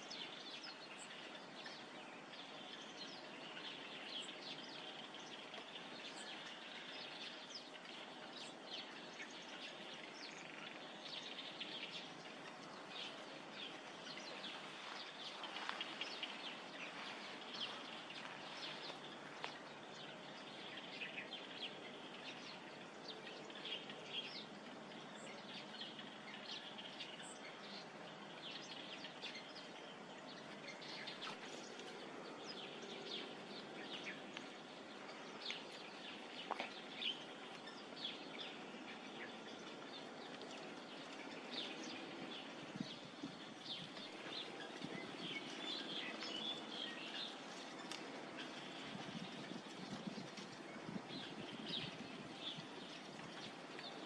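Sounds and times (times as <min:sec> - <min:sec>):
faint outdoor hiss: 0:00.0 - 0:54.0
small birds chirping: 0:00.0 - 0:54.0.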